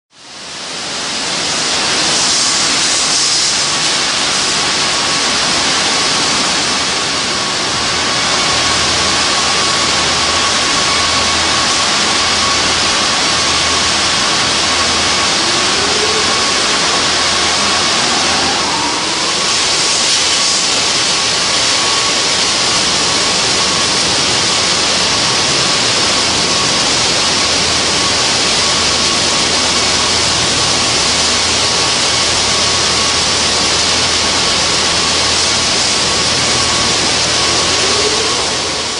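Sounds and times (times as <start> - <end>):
rushing hiss of spray and air: 0.2 - 38.9.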